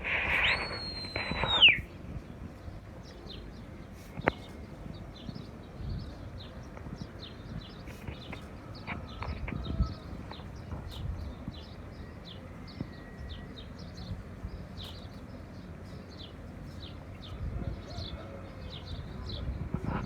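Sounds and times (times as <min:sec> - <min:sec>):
young birds peeping: 0:00.0 - 0:20.0.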